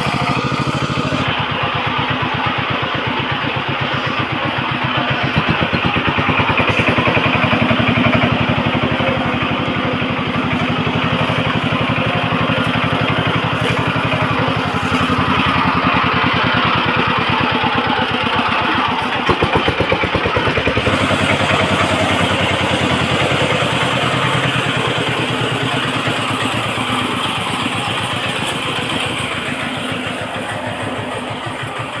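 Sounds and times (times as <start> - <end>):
farm machine engine running: 0.0 - 32.0.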